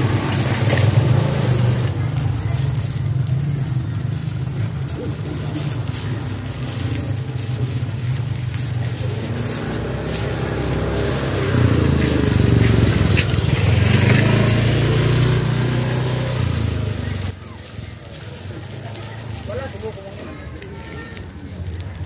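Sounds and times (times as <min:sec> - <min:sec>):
motorcycle engine passing: 0:00.0 - 0:20.4.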